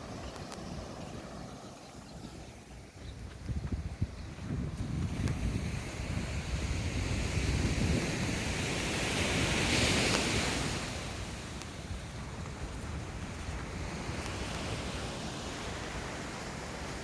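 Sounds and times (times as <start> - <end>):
ocean surf washing: 0.0 - 17.0
wind rumbling on microphone: 0.0 - 17.0.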